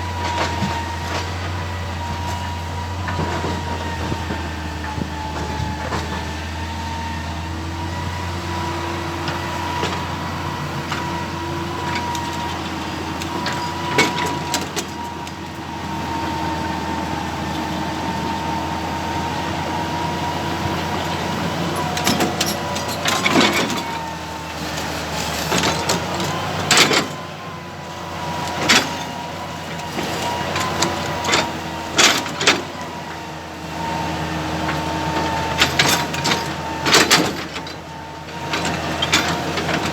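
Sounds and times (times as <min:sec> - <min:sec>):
excavator engine humming: 0:00.0 - 0:39.9
hydraulic whine: 0:00.0 - 0:39.9.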